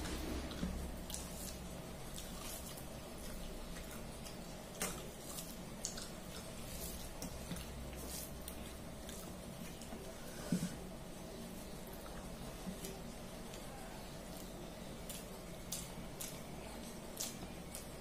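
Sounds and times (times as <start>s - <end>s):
low steady hum: 0.0s - 18.0s
soft wet squishing: 0.0s - 18.0s.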